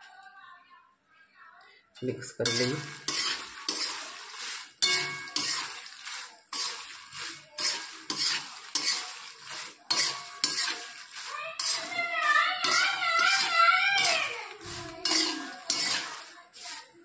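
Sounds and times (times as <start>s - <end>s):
spatula scraping metal pan: 2.4s - 17.0s
popcorn rustling: 2.5s - 17.0s.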